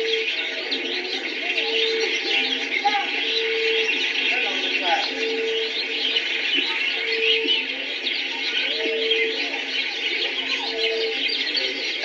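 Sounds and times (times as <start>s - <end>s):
birds chirping and trilling: 0.0s - 12.0s
low hooting call: 0.0s - 12.0s.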